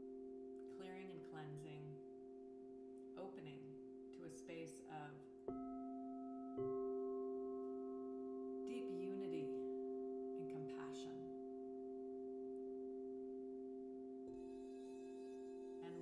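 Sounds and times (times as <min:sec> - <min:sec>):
crystal singing bowls ringing: 0:00.0 - 0:03.0, 0:05.5 - 0:16.0.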